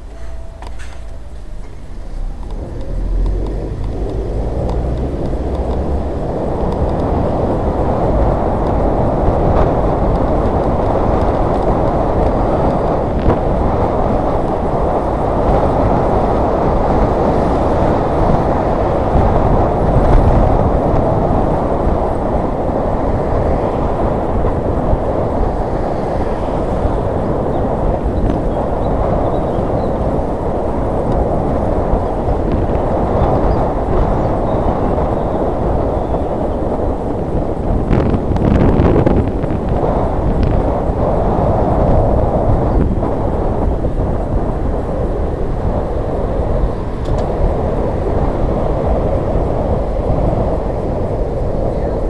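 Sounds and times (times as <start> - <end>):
road noise: 0.0 - 52.0
wind rushing over microphone: 0.0 - 52.0.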